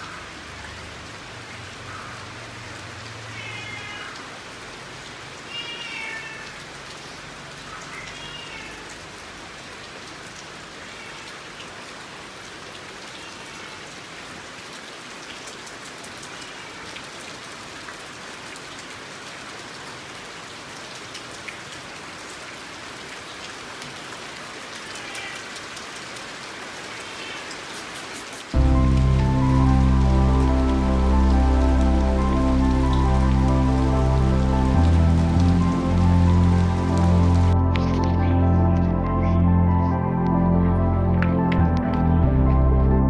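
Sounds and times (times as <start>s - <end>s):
rain pattering: 0.0s - 42.3s.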